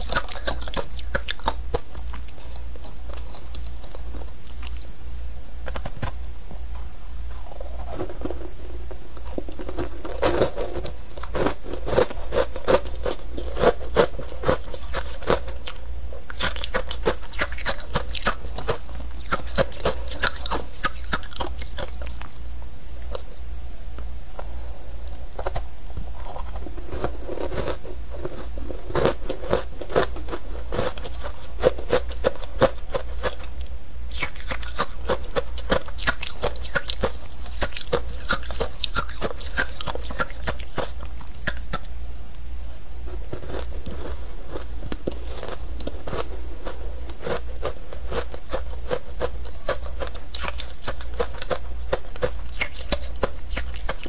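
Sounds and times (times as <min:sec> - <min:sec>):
ice being chewed crunching: 0:00.0 - 0:04.9, 0:09.2 - 0:23.2, 0:25.4 - 0:33.5, 0:34.1 - 0:41.9, 0:43.1 - 0:54.0.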